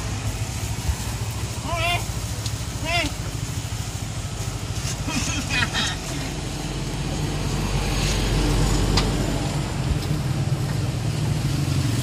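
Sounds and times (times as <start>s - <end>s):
tyre and street noise: 0.0s - 12.0s
vehicle engine running: 0.0s - 12.0s.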